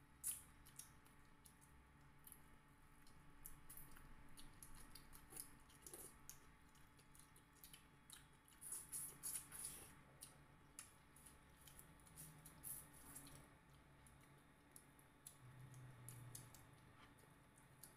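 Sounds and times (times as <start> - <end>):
soft wet chewing: 0.0 - 17.9.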